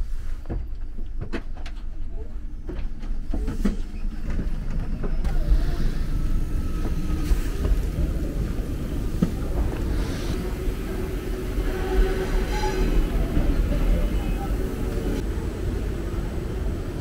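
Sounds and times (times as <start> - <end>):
stopped train rumbling: 0.0 - 17.0.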